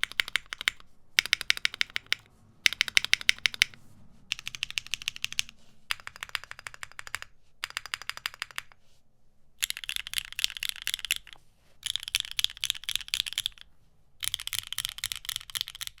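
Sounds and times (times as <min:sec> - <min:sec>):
mechanical keyboard typing: 0:00.0 - 0:08.8, 0:09.6 - 0:16.0.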